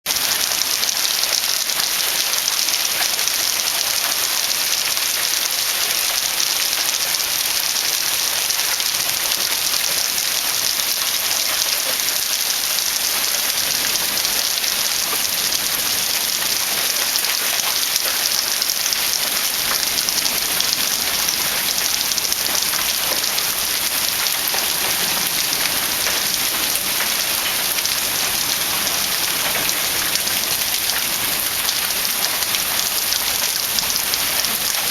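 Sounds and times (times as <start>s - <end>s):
heavy rain pattering: 0.0s - 34.9s.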